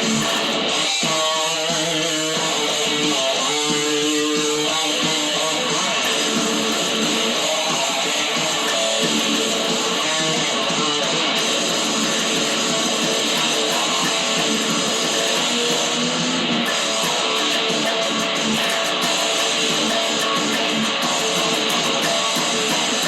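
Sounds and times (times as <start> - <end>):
strummed guitar chords: 0.0 - 23.0.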